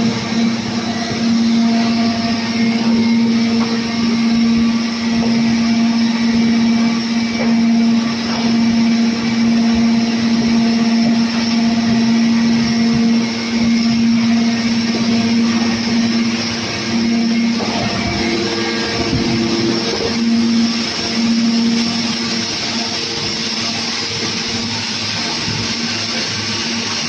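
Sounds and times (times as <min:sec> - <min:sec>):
recycling machine humming: 0:00.0 - 0:27.0.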